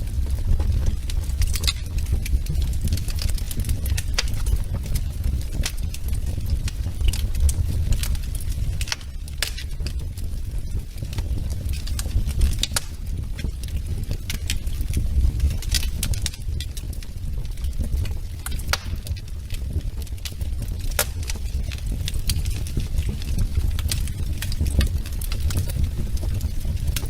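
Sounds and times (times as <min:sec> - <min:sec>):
steady low rumble of fire: 0:00.0 - 0:27.0
wood fire crackling and snapping: 0:00.0 - 0:27.0.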